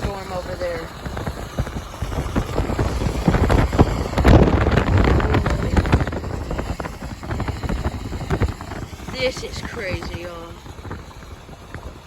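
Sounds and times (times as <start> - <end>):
loud rumbling storm noise: 0.0 - 12.0.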